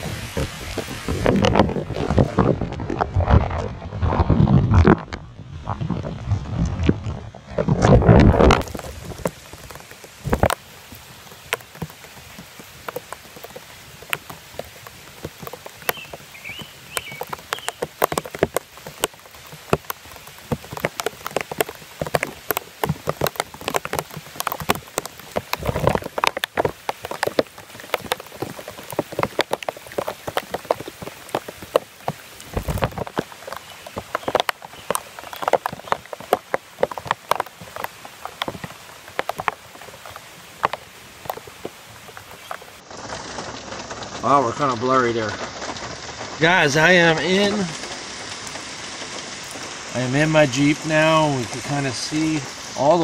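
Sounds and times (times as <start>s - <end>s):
heavy rain on gravel: 0.0s - 53.0s
rainwater running in a channel: 0.0s - 53.0s.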